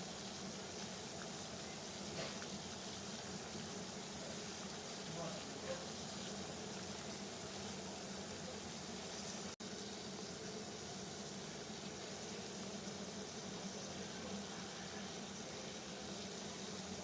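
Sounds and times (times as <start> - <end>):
water boiling: 0.0 - 17.0.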